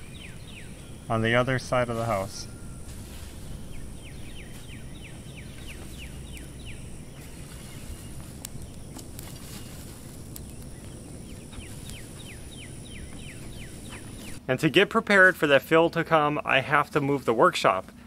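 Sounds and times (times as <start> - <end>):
songbird singing: 0.0 - 17.7
outdoor background hum: 0.0 - 18.0.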